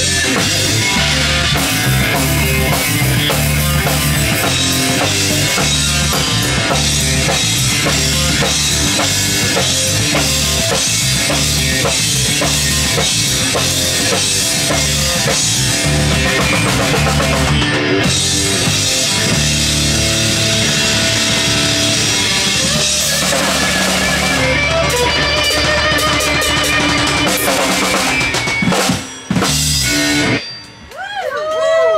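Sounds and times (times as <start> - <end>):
electric guitars: 0.0 - 31.0.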